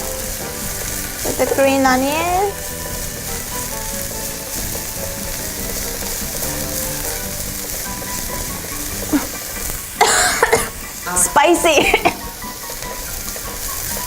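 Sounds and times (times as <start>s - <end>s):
loud sizzle burst: 0.0s - 14.0s
onion sizzling in hot oil: 0.0s - 14.0s.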